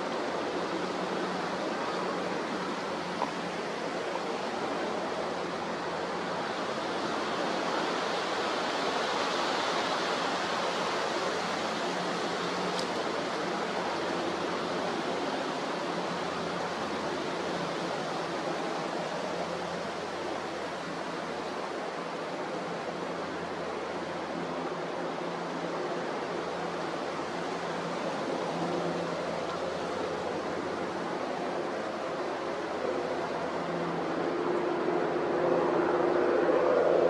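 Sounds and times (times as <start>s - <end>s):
gale wind: 0.0s - 37.0s
rough sea: 0.0s - 37.0s.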